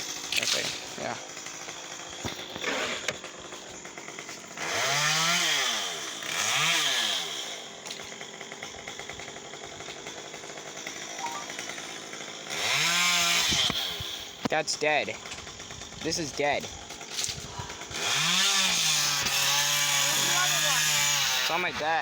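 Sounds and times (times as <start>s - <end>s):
chainsaw revving and idling: 0.0s - 22.0s.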